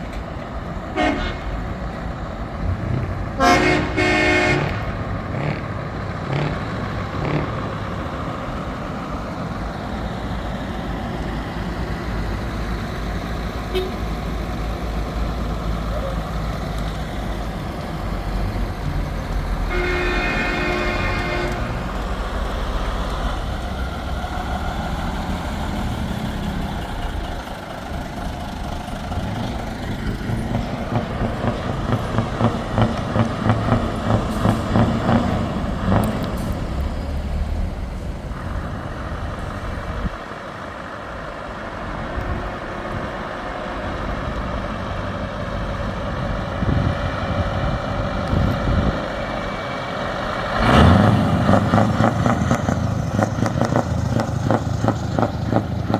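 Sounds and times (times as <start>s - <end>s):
heavy diesel trucks passing: 0.0s - 55.9s.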